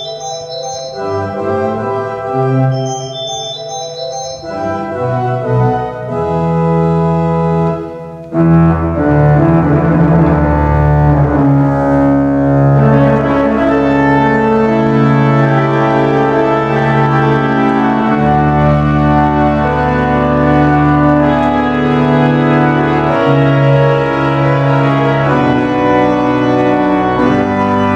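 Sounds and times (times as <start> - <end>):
pipe organ chords: 0.0 - 27.9.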